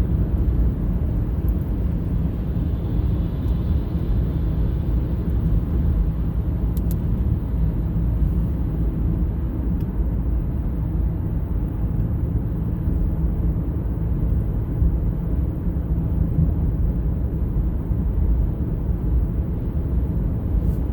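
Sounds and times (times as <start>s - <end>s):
truck engine and road noise: 0.0s - 20.9s.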